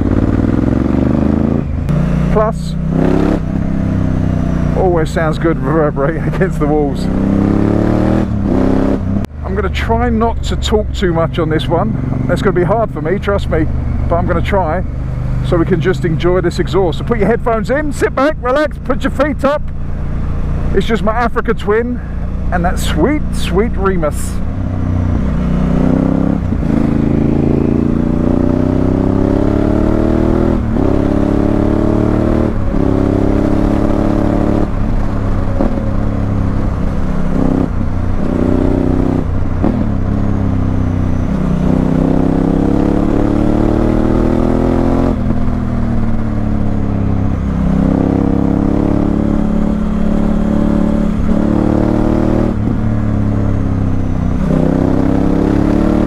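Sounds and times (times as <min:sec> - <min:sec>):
motorcycle engine revving through gears: 0:00.0 - 0:56.0.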